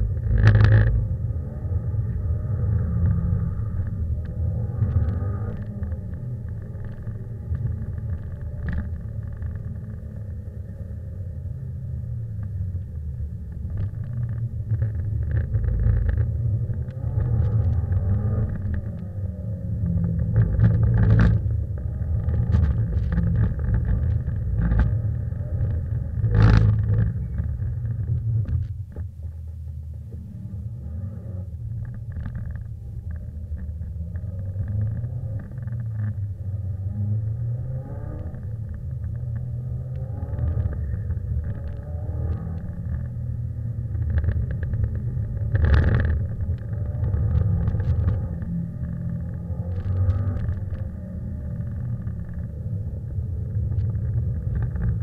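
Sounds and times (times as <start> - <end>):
car engine rumble inside cabin: 0.0 - 55.0.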